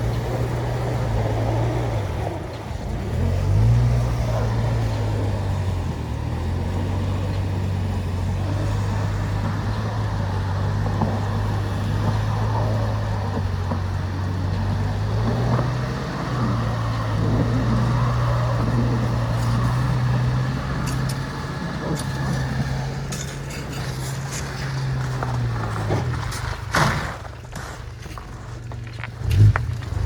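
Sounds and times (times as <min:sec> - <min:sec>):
car engine revving: 0:00.0 - 0:27.5, 0:28.1 - 0:30.0.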